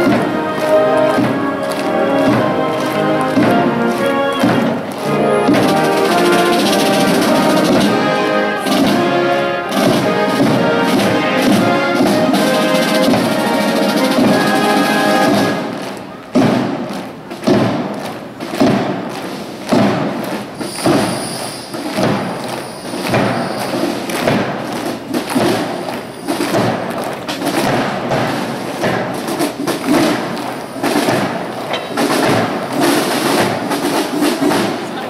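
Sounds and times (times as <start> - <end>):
military marching band: 0.0 - 35.0.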